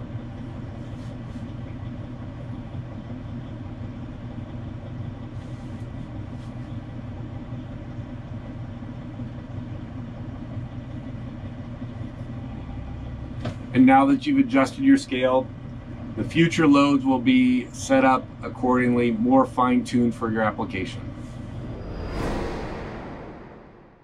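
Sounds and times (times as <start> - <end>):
diesel engine idling: 0.0 - 21.6.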